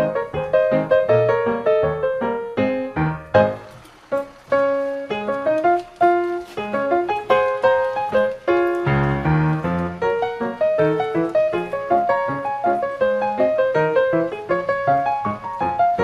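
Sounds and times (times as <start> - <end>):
lively solo piano tune: 0.0 - 16.0.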